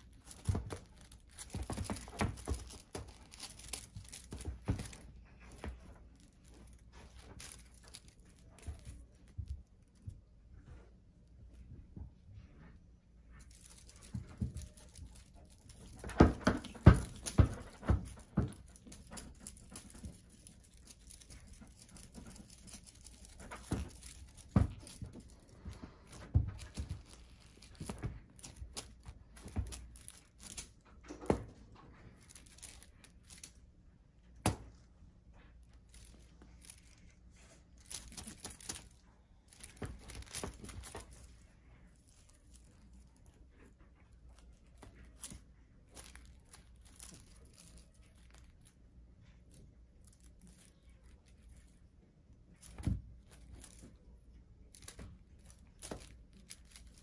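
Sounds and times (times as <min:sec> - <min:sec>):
kitten rustling and pouncing: 0:00.0 - 0:57.0.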